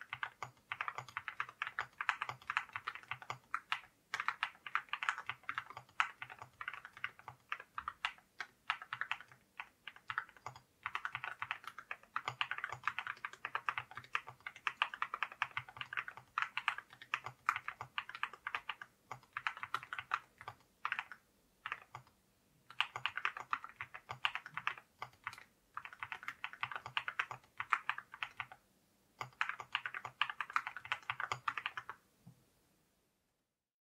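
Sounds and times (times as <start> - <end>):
fast typing on mechanical keyboard: 0.0 - 22.1, 22.7 - 28.6, 29.2 - 32.0.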